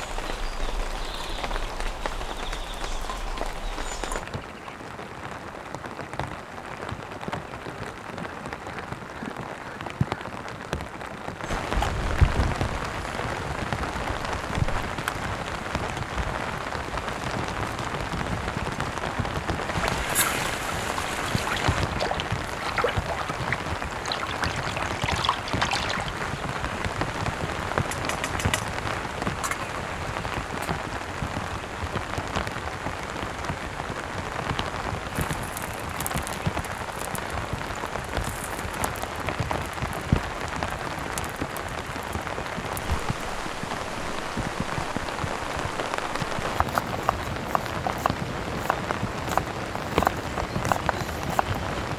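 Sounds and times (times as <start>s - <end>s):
rain pattering on surfaces: 0.0s - 51.9s.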